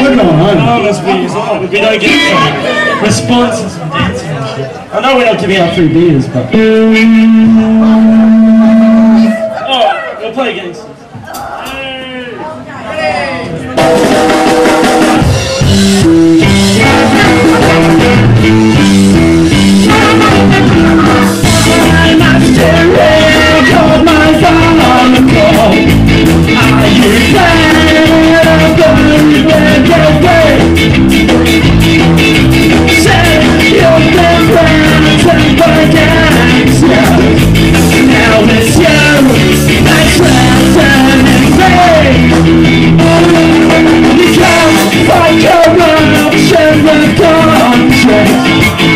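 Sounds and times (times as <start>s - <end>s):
rock band playing loudly: 0.0s - 4.3s, 5.4s - 9.6s, 13.6s - 48.9s.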